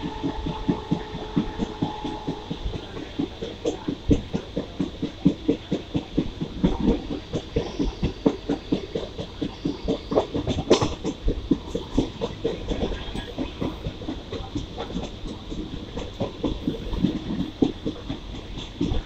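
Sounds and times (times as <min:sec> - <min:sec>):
train wheels clattering: 0:00.0 - 0:19.0.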